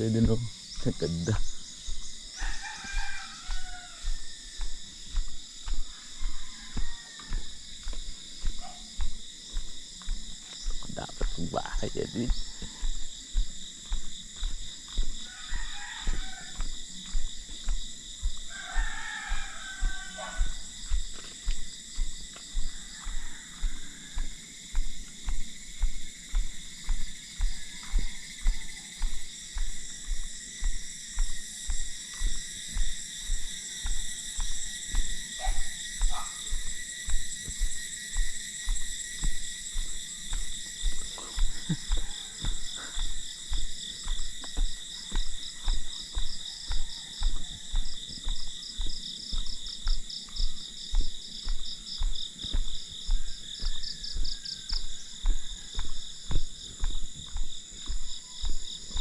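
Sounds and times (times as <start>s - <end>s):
insects trilling chorus: 0.0s - 59.0s
footsteps thudding: 3.0s - 18.5s, 19.3s - 59.0s.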